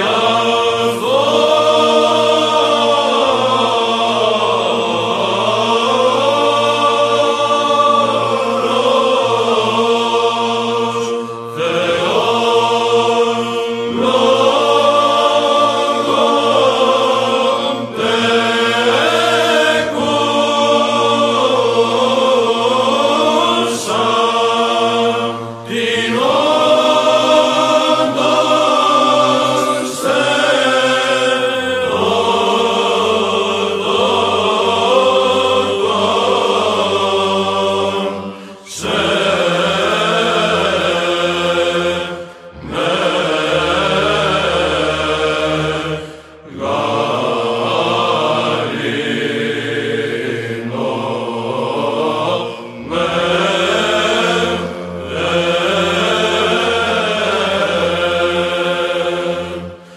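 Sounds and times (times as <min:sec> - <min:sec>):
low held vocal drone: 0:00.0 - 0:59.9
male choir chanting: 0:00.0 - 0:59.9.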